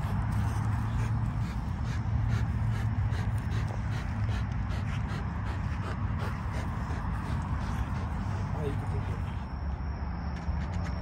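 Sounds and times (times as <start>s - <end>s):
dog panting and snorting: 0.0s - 9.5s.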